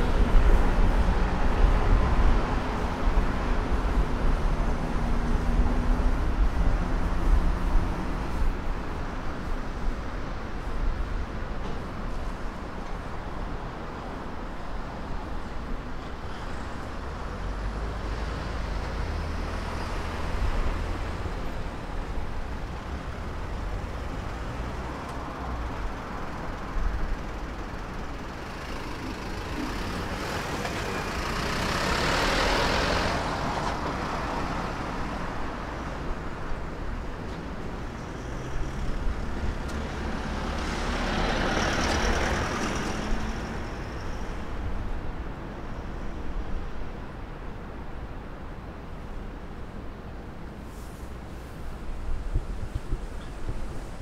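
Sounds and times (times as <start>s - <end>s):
traffic engine rumble: 0.0s - 54.0s
vehicles passing close by: 0.0s - 54.0s.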